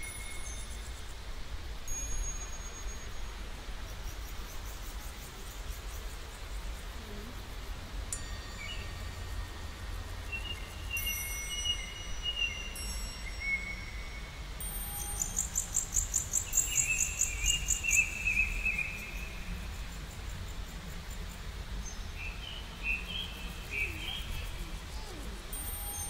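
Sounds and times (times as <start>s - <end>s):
songbirds singing: 1.9s - 26.0s.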